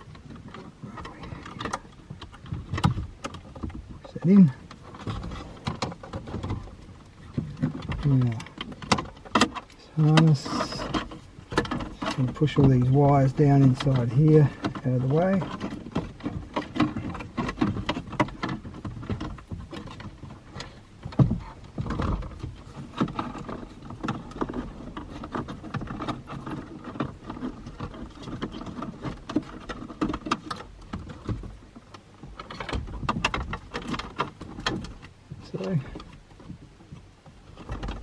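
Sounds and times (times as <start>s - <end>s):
wires and connectors rustling: 0.0s - 38.0s.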